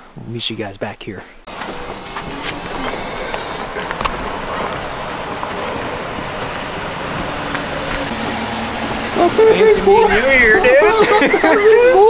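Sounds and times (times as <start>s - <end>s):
vehicle driving rush: 1.5s - 12.0s.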